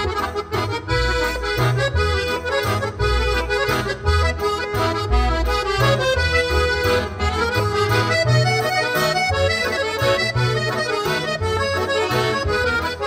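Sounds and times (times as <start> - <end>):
accordion music: 0.0 - 13.0
bass line: 0.0 - 13.0.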